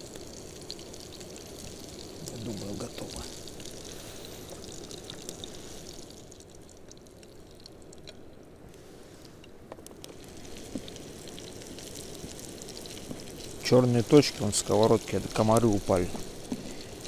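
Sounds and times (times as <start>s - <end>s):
meat sizzling in oil: 0.0s - 7.9s, 10.0s - 17.0s.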